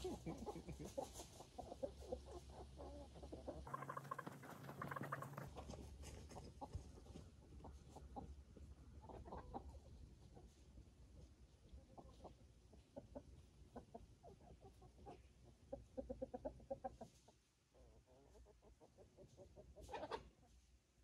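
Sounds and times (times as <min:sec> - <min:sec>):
chickens clucking: 0:00.0 - 0:20.7.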